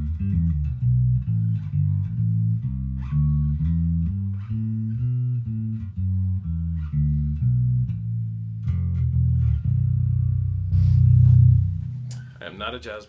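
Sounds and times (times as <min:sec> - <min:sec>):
bass guitar fingerstyle notes: 0:00.0 - 0:13.0.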